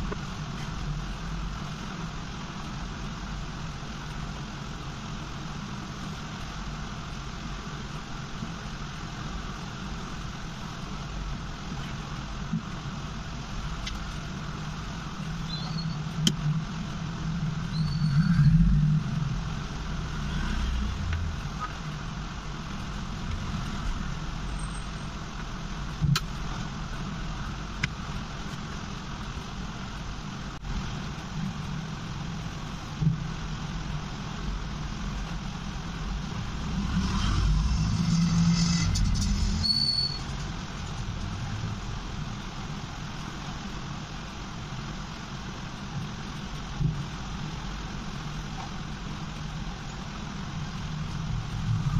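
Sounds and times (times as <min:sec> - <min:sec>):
background rumble and hiss: 0:00.0 - 0:51.9.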